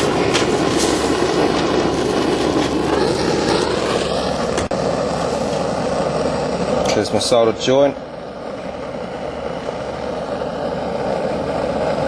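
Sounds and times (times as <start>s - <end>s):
gas burner roaring: 0.0s - 12.0s.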